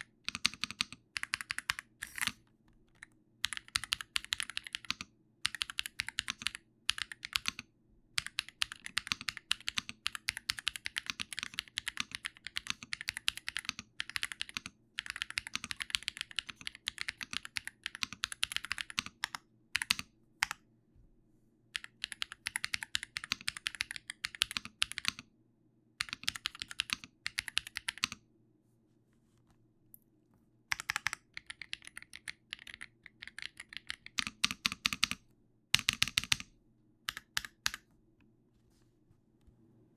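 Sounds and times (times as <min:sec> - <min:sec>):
typing on computer keyboard: 0:00.0 - 0:20.6, 0:21.8 - 0:25.3, 0:26.0 - 0:28.2, 0:30.7 - 0:35.2, 0:35.8 - 0:36.5, 0:37.1 - 0:37.9.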